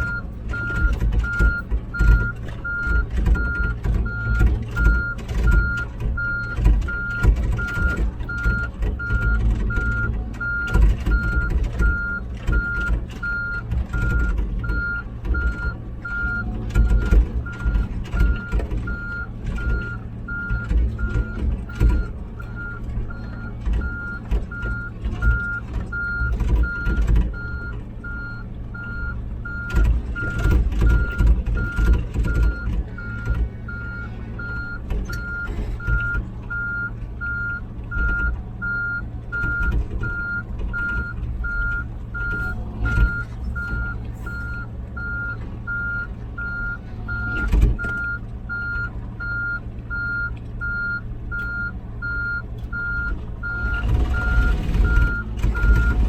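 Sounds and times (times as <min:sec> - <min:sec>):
diesel engine running: 0:00.0 - 0:56.0
travel alarm beeping: 0:00.0 - 0:56.0.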